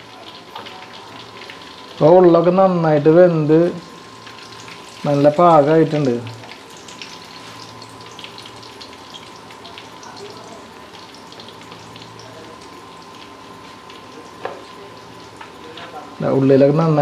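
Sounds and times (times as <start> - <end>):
oil sizzling in frying pan: 0.0 - 17.0.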